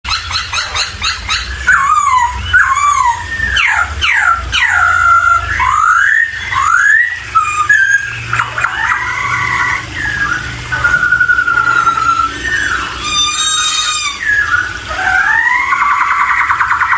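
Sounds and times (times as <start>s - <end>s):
bird whistling song: 0.1s - 16.9s.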